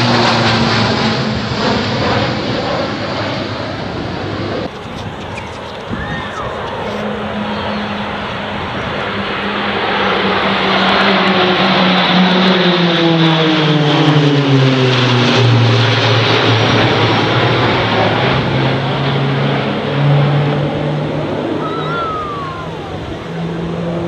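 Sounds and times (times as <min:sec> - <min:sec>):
propeller aircraft flying overhead: 0:00.0 - 0:24.0.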